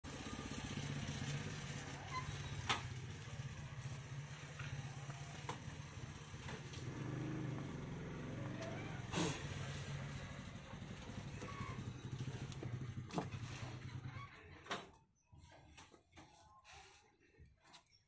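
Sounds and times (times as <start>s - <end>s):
diesel engine running slowly: 0.0s - 14.7s.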